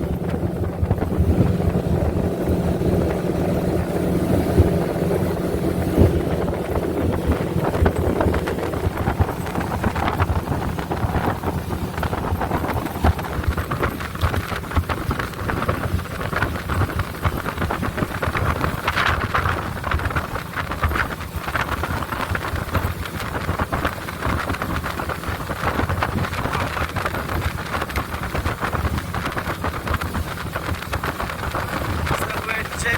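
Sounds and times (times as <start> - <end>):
boat engine: 0.0 - 32.9
water rushing: 0.0 - 32.9
wind buffeting microphone: 0.0 - 32.9.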